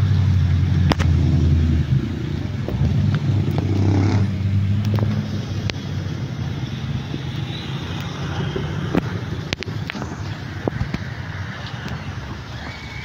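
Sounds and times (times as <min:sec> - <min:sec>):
vehicle engine running: 0:00.0 - 0:12.7.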